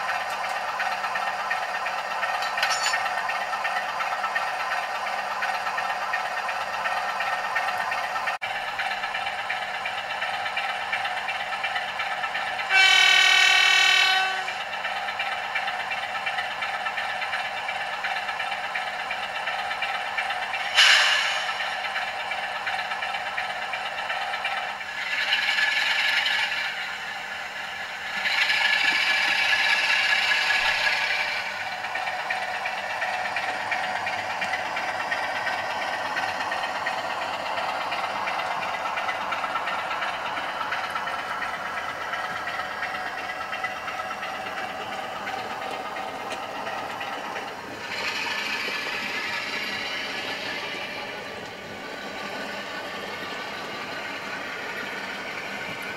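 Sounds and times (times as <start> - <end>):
model train wheels clattering: 0.0 - 55.9.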